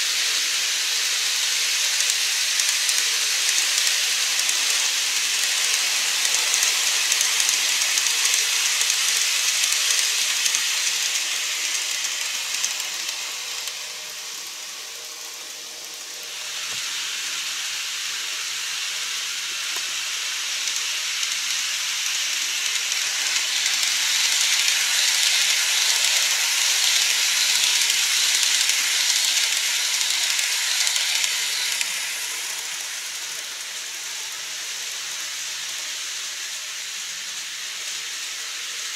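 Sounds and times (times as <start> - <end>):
model train motors whirring on track: 0.0 - 38.9.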